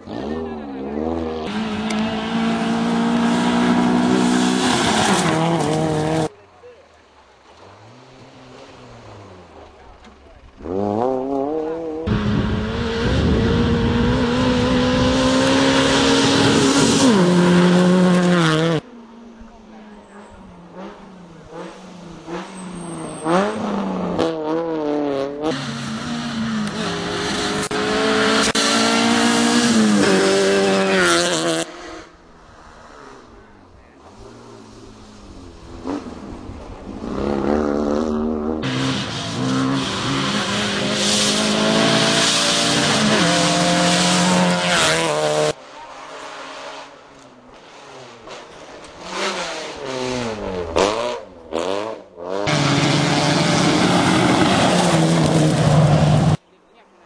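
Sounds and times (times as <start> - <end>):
rally cars revving past: 0.0 - 6.3, 10.5 - 19.2, 20.0 - 33.4, 34.0 - 56.4.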